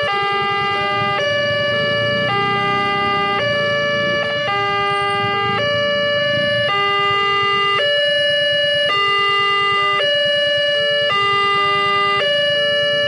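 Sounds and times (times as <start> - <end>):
level crossing electronic alarm: 0.0 - 13.0.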